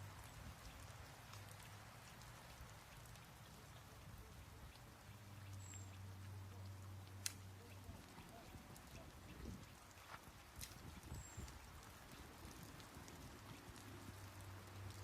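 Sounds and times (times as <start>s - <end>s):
faint steady hiss: 0.0s - 15.0s
light ticks: 0.2s - 15.0s.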